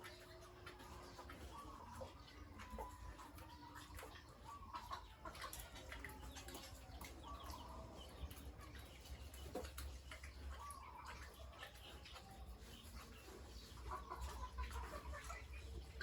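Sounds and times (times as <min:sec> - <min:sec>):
chickens clucking faintly: 0:00.0 - 0:16.0.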